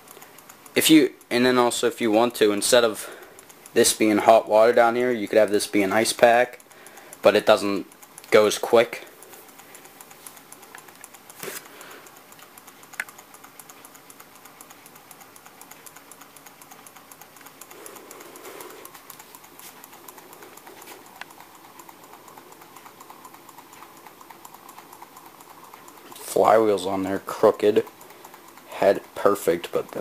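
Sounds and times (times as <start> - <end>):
small engine rapid clicking: 0.0 - 30.0.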